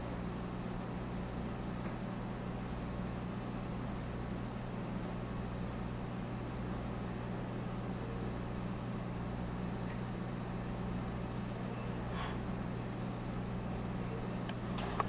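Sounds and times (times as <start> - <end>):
aquarium equipment electrical hum: 0.0 - 15.0.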